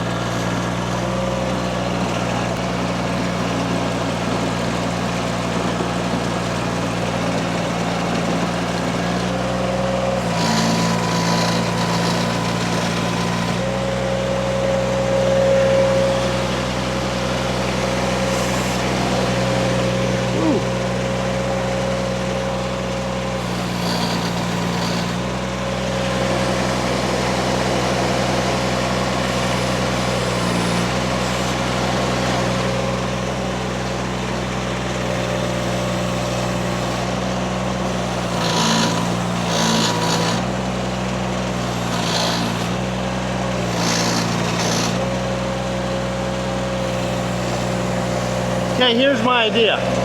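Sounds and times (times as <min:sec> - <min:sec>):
skid steer engine running: 0:00.0 - 0:50.0.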